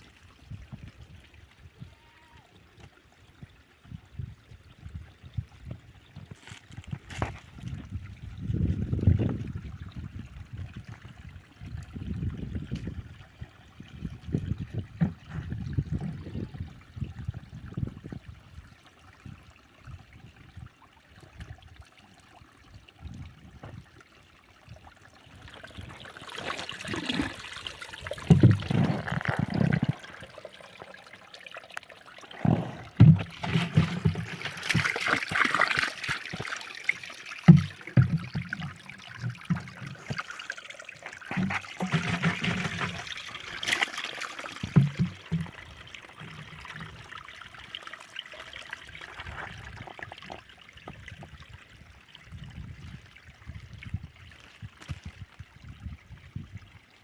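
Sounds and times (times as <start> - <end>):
water trickling and pouring: 0.0 - 57.0.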